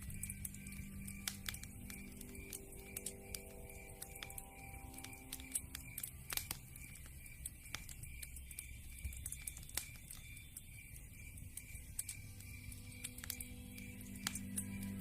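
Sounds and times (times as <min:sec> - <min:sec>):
log fire popping and snapping: 0:00.0 - 0:15.0
low rumble of burning: 0:00.0 - 0:15.0.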